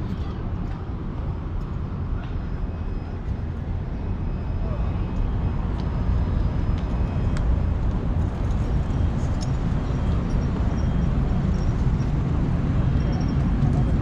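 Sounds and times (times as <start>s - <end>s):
vehicle road noise rumble: 0.0s - 14.0s.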